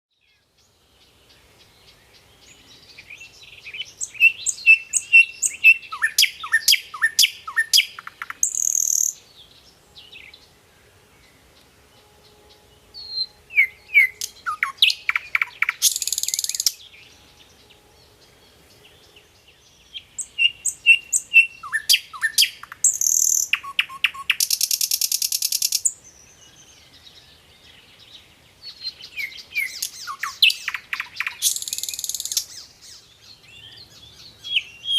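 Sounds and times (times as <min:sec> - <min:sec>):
songbird chirping song: 0:00.1 - 0:34.9.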